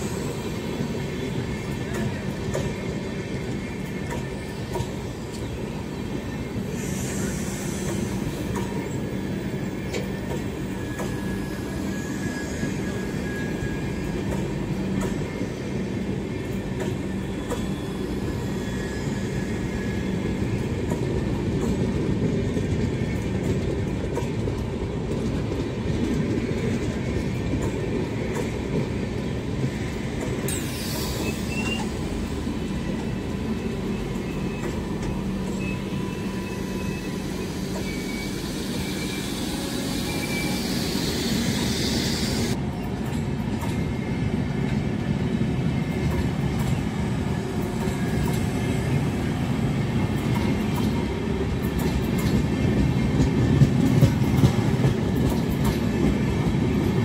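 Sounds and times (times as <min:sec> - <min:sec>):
clickety-clack over rail joints: 0:00.0 - 0:05.8, 0:06.4 - 0:30.7, 0:31.5 - 0:35.8, 0:42.5 - 0:57.0
train wheels rumbling on rail: 0:00.0 - 0:57.0.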